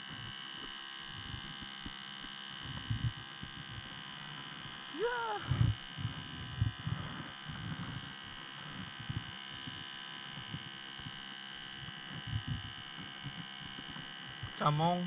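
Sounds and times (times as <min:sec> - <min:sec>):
steady high-toned hum: 0:00.0 - 0:15.0
soft low thumps: 0:01.1 - 0:02.0, 0:02.6 - 0:11.2, 0:11.8 - 0:14.6.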